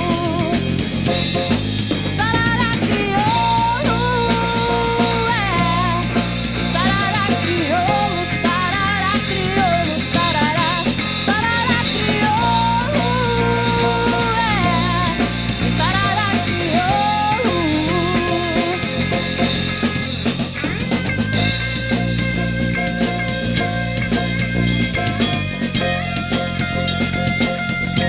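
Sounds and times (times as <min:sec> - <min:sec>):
bass line: 0:00.0 - 0:28.0
drums: 0:00.0 - 0:28.0
sliding lead melody: 0:00.0 - 0:28.0.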